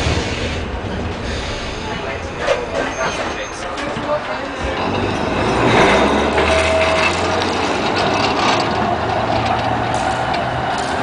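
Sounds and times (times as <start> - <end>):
tram wheels running on rails: 0.0 - 11.0.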